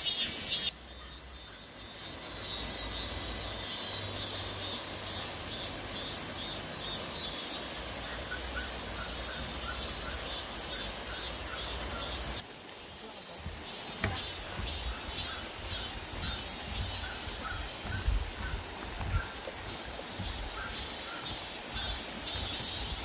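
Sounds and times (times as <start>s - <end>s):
river water flowing: 0.8s - 23.0s.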